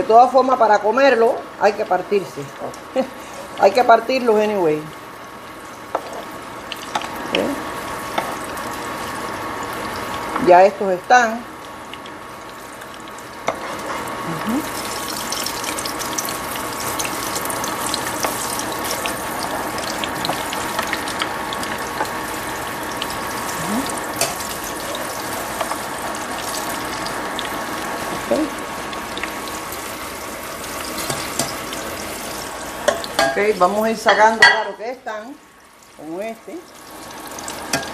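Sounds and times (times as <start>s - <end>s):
fritters sizzling in hot oil: 1.8s - 37.9s.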